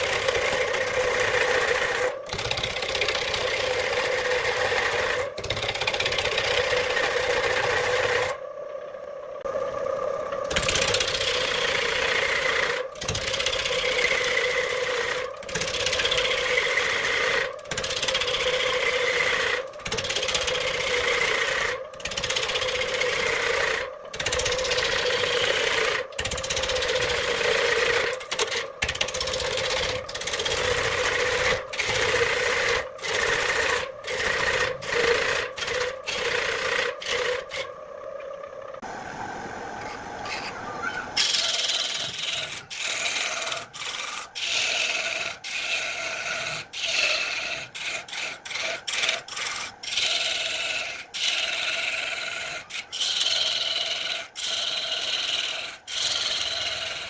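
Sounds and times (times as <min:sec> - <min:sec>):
lathe tool cutting wood: 0:00.0 - 0:08.4, 0:10.3 - 0:37.7, 0:41.2 - 0:57.0
lathe motor hum: 0:00.0 - 0:39.0, 0:41.2 - 0:57.0.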